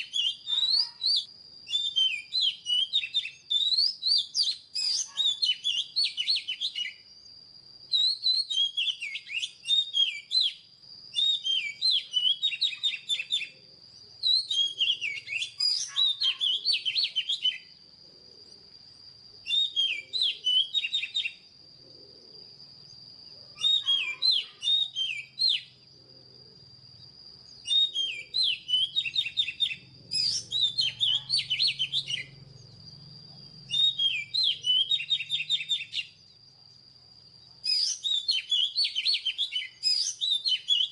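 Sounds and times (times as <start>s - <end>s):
bird song whistles and trills: 0.0s - 17.8s, 18.4s - 40.9s.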